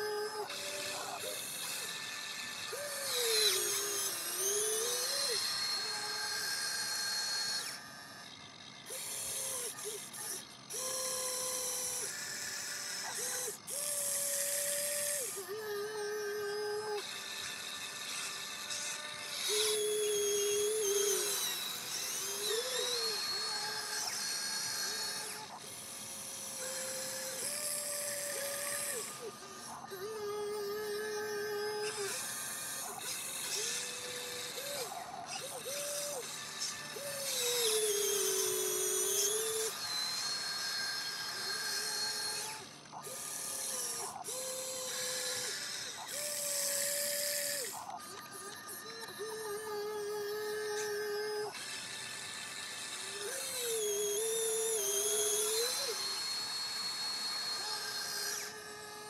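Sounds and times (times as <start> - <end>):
toy excavator electric motors whining: 0.0 - 59.0.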